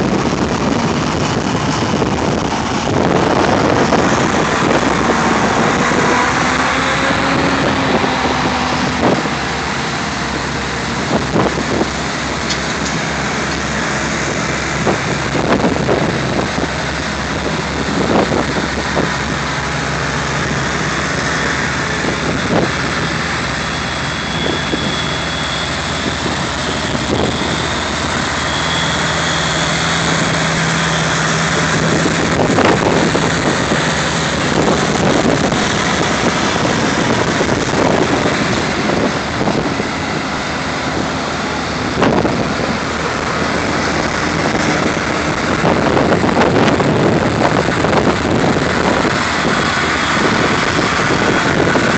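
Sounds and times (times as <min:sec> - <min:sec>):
tractor engines running: 0:00.0 - 0:51.9
wind noise on microphone: 0:00.0 - 0:51.9.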